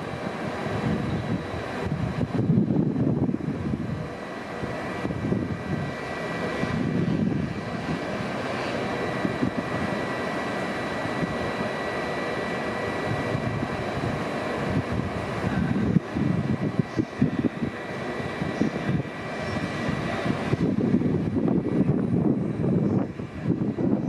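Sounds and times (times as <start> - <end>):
high whine: 0.0 - 24.0
train low rumble: 0.0 - 24.0.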